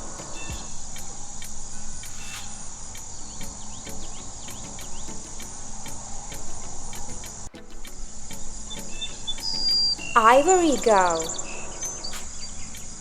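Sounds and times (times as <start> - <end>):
high-pitched insect chirring with clicks: 0.0 - 13.0.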